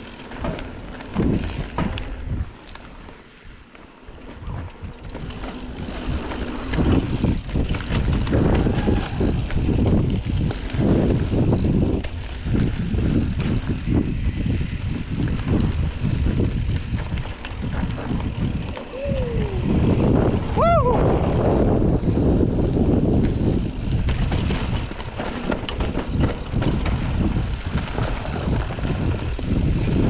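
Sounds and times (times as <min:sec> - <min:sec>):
bike rattling and knocking: 0:00.0 - 0:03.2, 0:03.8 - 0:30.0
wind rushing over microphone: 0:03.5 - 0:30.0
tyres rumbling on dirt: 0:03.8 - 0:30.0.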